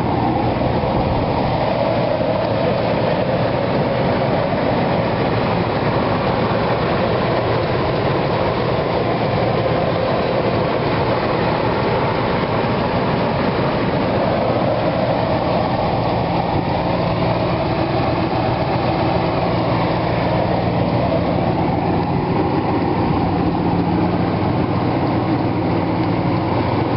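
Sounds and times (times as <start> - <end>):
low hum: 0.0 - 26.9
truck engine running: 0.0 - 26.9.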